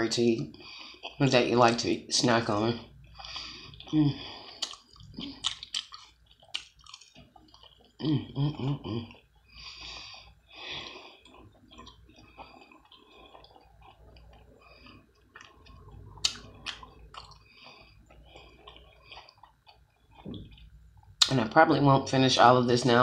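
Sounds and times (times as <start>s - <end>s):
person chewing food: 0.1s - 21.4s.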